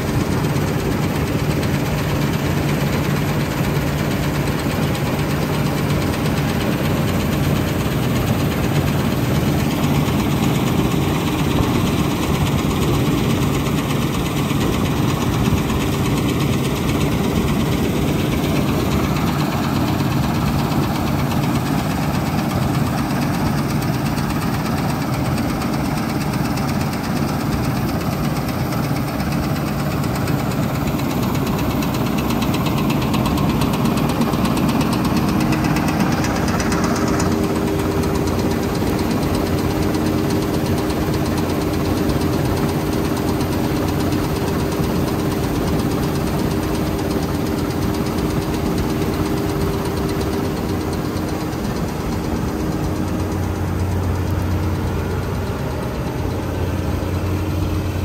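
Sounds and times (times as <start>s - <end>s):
combine harvester engine humming: 0.0s - 58.0s
threshing machinery rattling: 0.0s - 58.0s.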